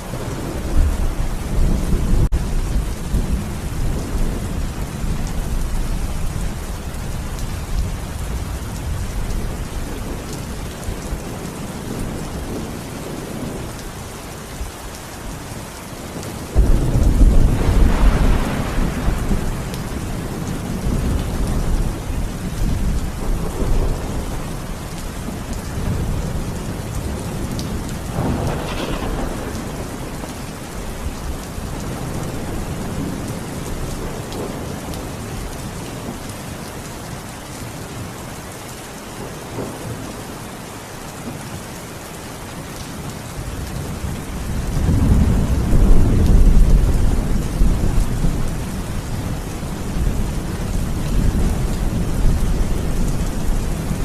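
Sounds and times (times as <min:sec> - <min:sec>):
low rolling thunder: 0:00.0 - 0:14.0, 0:16.0 - 0:36.3, 0:43.4 - 0:54.0
steady rain falling: 0:00.0 - 0:54.0.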